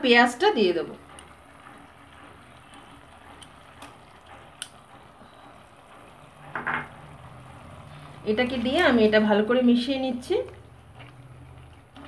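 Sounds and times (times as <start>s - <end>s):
gravy simmering hiss: 0.0s - 12.0s.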